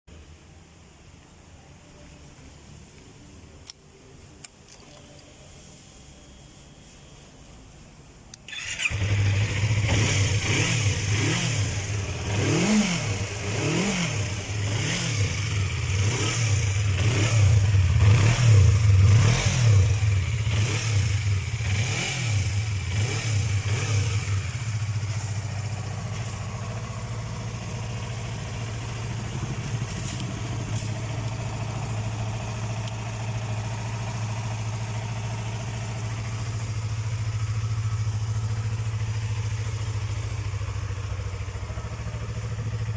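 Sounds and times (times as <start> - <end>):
motorcycle engine revving: 8.5 - 42.9.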